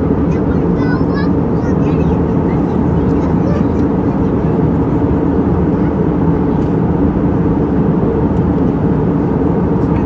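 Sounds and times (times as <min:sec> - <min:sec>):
airliner cabin engine noise: 0:00.0 - 0:10.0.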